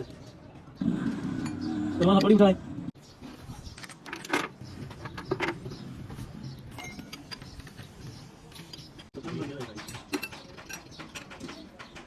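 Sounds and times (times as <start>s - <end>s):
low workshop background: 0.0s - 12.0s.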